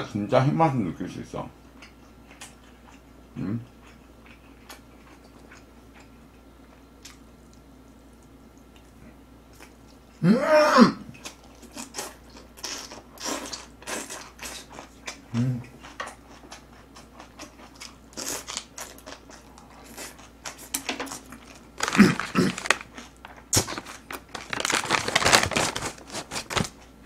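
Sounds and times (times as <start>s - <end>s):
person chewing and crunching food: 1.7s - 10.2s, 11.1s - 27.0s.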